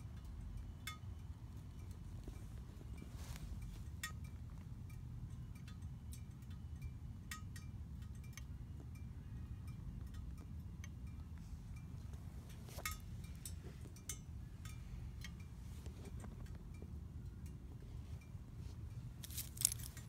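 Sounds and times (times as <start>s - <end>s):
light metallic clinks: 0.0s - 9.1s, 9.7s - 20.0s.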